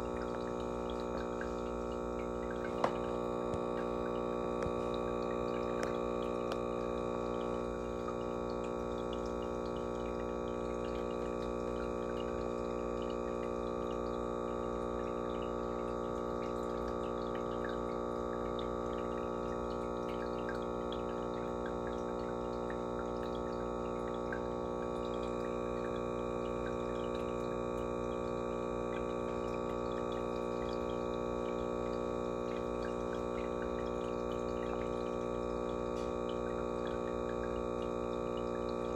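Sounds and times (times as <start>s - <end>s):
aquarium equipment humming: 0.0s - 38.9s
water trickling: 0.0s - 38.9s.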